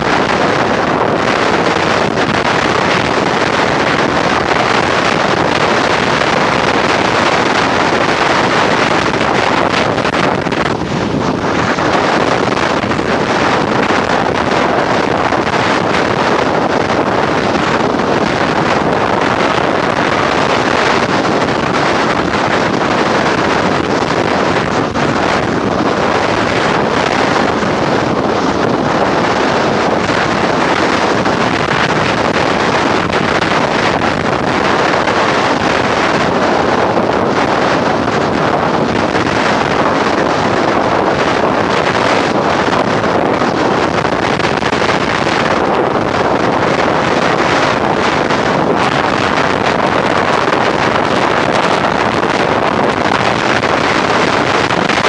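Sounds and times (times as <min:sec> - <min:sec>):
wind blowing across microphone: 0:00.0 - 0:55.0.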